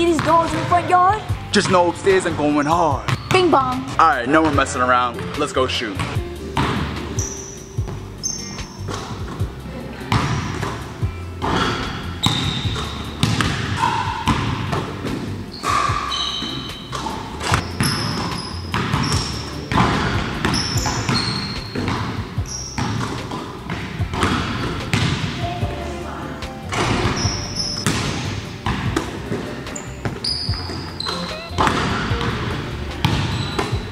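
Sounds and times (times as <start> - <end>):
basketballs bouncing on gym floor: 0.0 - 5.4, 6.0 - 25.8, 26.7 - 33.9
background music: 0.0 - 33.9.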